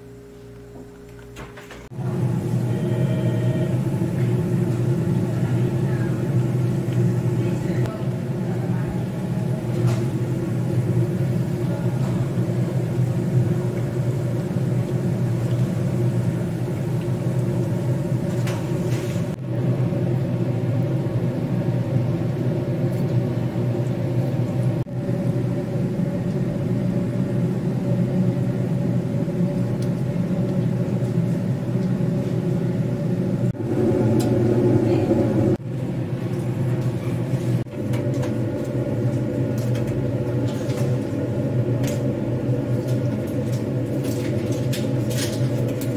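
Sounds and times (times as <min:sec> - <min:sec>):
machine hum and rumble: 0:00.0 - 0:45.9.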